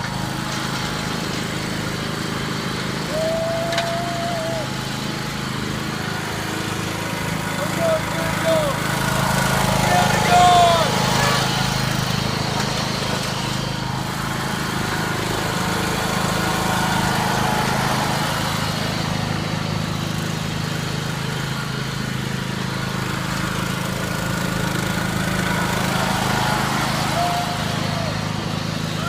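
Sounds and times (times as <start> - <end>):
riding lawn mower engine running: 0.0 - 29.0.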